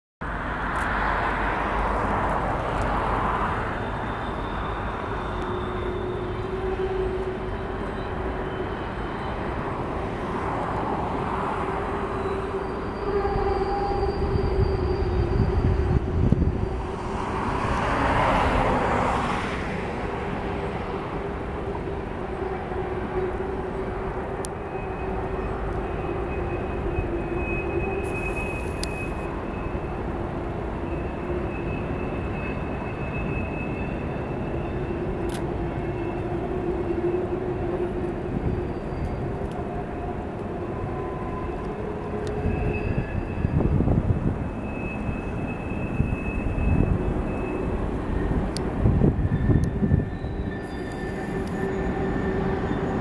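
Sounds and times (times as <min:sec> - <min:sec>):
freight train rumbling: 0:00.2 - 0:53.0.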